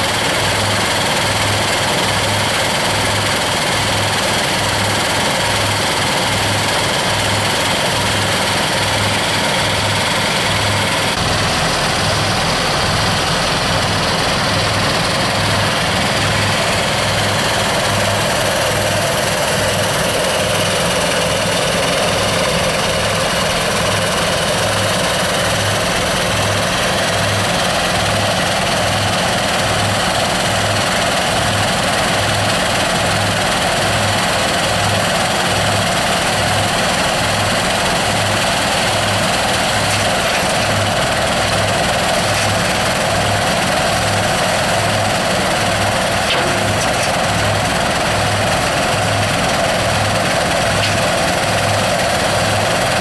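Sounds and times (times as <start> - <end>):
machine engine throbbing: 0.0 - 53.0.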